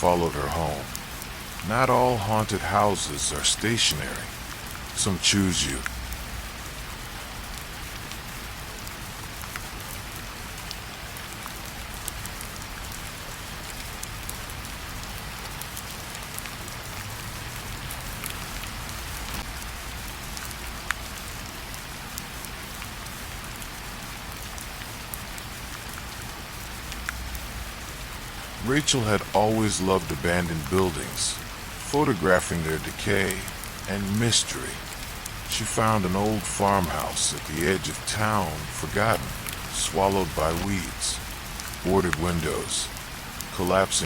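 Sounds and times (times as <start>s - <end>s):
raindrops ticking: 0.0s - 44.0s
steady rainfall hiss: 0.0s - 44.0s.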